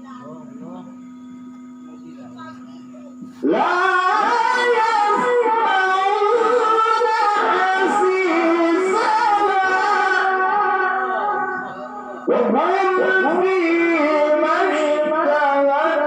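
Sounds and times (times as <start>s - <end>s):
person reciting melodically: 0.0s - 16.0s.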